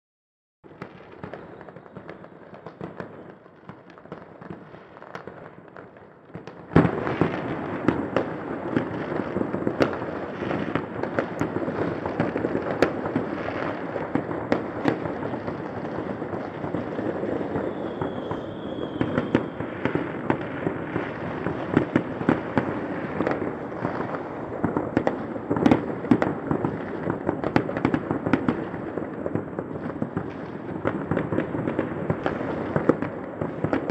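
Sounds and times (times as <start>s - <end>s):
distant fireworks popping and banging: 0.6s - 33.9s.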